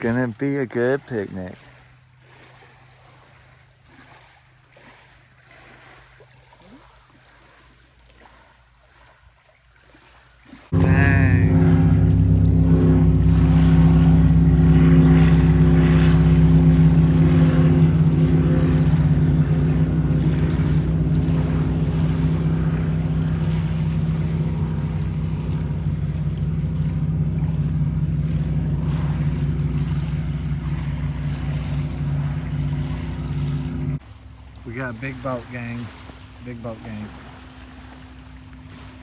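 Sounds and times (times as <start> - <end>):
motorboat engine droning: 0.0 - 39.0.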